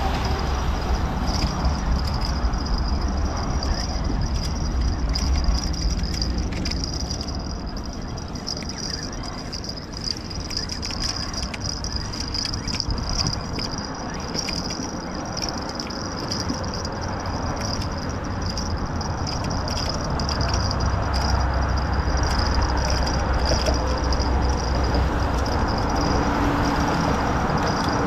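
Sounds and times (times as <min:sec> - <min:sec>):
traffic rumble: 0:00.0 - 0:28.0
wind noise: 0:00.0 - 0:28.0
fishing reel cranking: 0:00.8 - 0:28.0.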